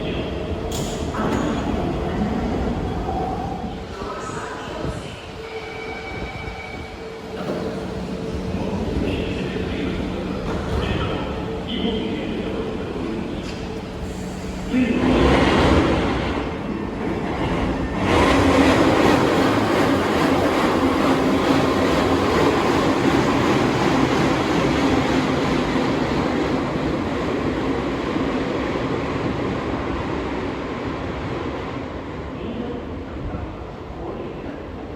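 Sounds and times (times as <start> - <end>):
metro train running: 0.0 - 34.9.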